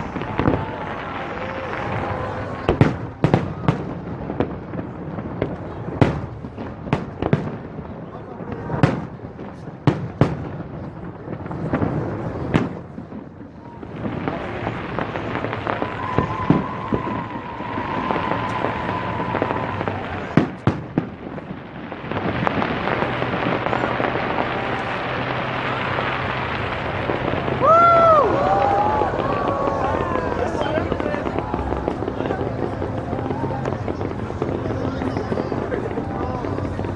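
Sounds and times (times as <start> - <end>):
crowd: 0.0 - 36.9
distant firework bursts: 0.0 - 36.9
sharp firework bangs: 0.0 - 36.9.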